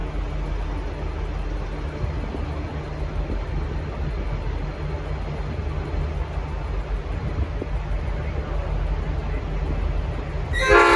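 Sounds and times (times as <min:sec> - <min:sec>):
diesel locomotive engine droning: 0:00.0 - 0:10.9.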